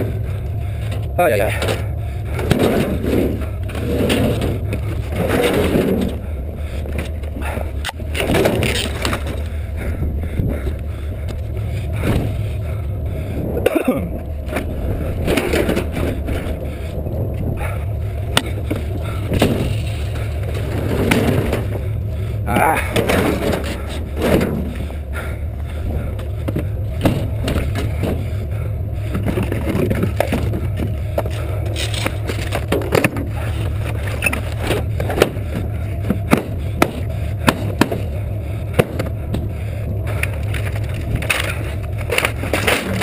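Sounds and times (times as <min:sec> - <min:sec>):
rattles and clunks: 0:00.0 - 0:43.0
vehicle low rumble: 0:00.0 - 0:43.0.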